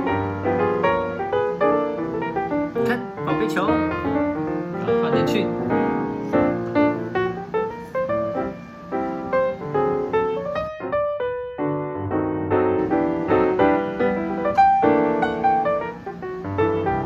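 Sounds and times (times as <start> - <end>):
light piano music: 0.0 - 17.0.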